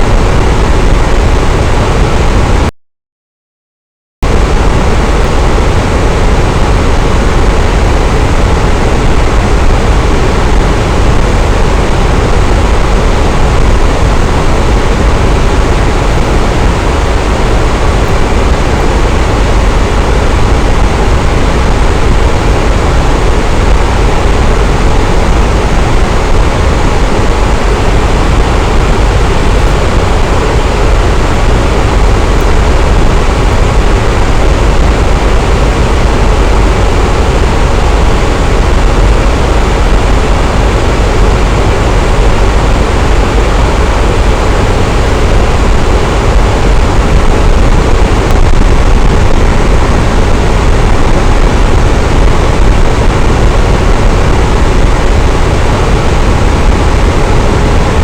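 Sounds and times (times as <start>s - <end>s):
electric fan running: 0.0s - 2.7s, 4.2s - 58.0s.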